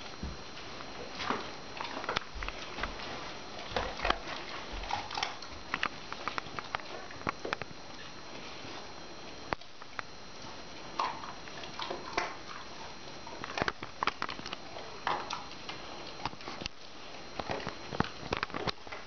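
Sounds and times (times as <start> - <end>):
dog crunching dry kibble: 0.7 - 8.2, 9.5 - 19.0.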